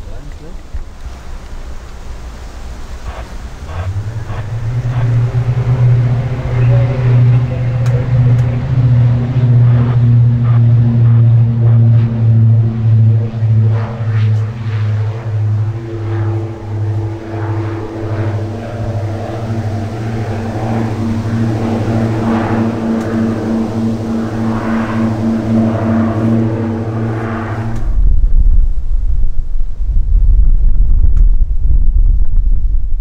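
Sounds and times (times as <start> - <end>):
propeller aircraft engine drone: 0.0 - 33.0
wind rumbling on microphone: 0.0 - 33.0.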